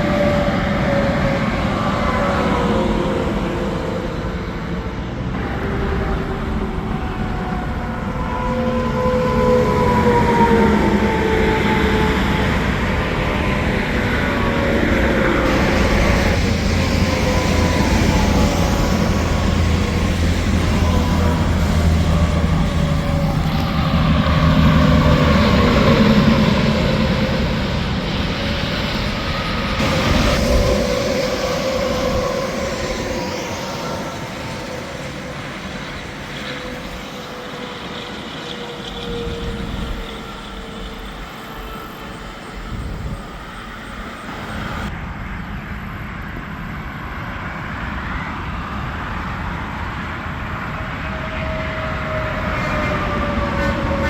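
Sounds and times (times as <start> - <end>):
highway traffic passing: 0.0 - 54.0.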